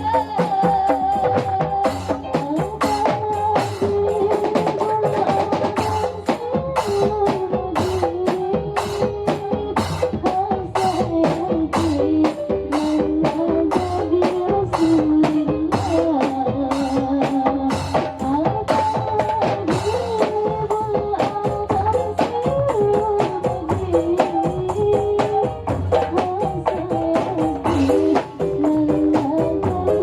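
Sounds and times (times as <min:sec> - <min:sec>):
hand drums and percussion: 0:00.0 - 0:30.0.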